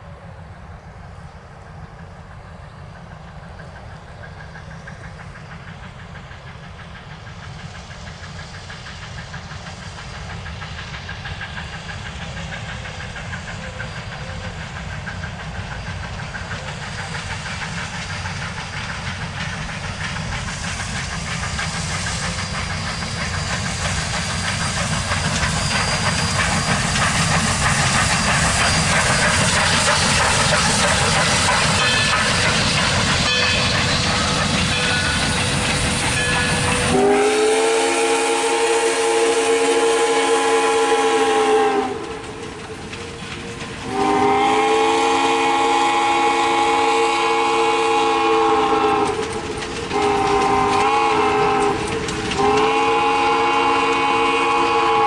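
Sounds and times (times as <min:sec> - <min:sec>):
steam locomotive exhaust beat: 0:00.0 - 0:55.0
steam hissing: 0:00.7 - 0:55.0.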